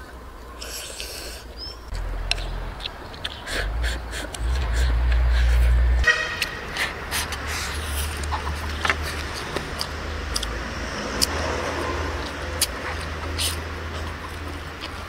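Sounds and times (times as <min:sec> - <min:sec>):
eating mouth sounds: 0:00.6 - 0:15.0
steady low rumble: 0:01.9 - 0:15.0.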